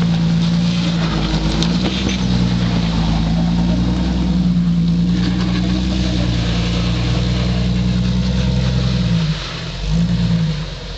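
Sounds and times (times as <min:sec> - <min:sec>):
engine running under load: 0:00.0 - 0:10.9.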